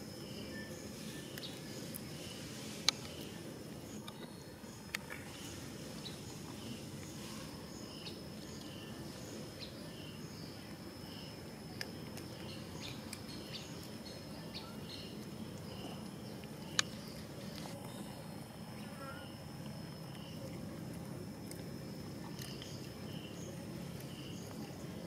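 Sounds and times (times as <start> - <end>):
steady background hiss: 0.0 - 25.0.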